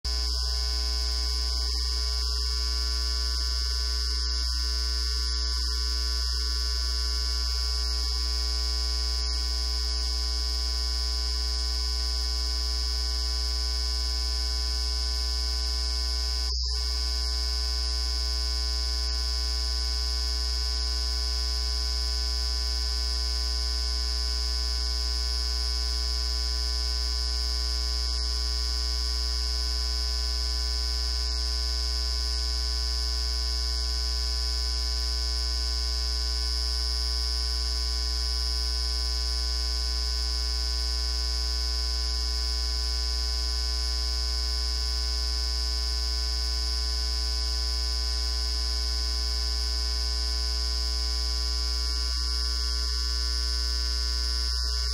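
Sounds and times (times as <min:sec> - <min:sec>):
electrical hum with high whine: 0:00.1 - 0:54.9.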